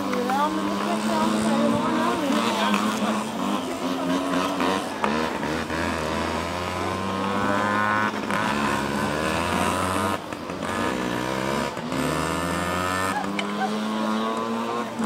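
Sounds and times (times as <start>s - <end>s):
mini motorcycle engines: 0.0s - 15.0s.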